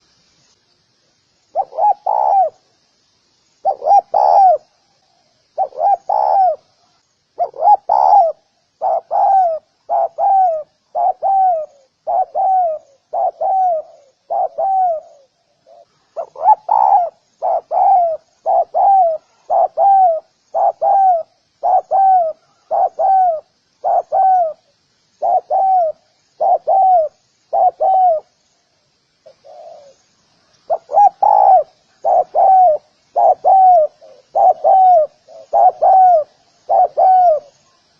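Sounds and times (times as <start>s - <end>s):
dove cooing: 1.5s - 2.7s, 3.6s - 4.8s, 5.5s - 6.8s, 7.4s - 28.3s, 29.2s - 30.1s, 30.7s - 37.8s.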